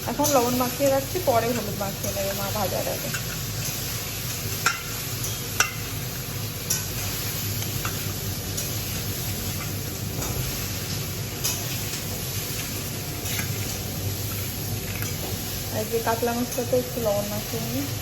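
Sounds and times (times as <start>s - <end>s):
steady sizzling hiss: 0.0s - 18.0s.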